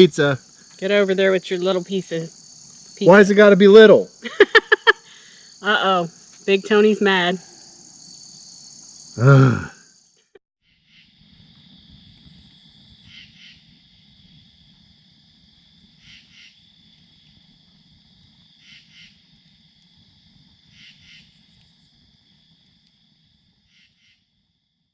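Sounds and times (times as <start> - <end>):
loud insect chirps: 0.0 - 24.9
night insects trilling: 0.0 - 24.9.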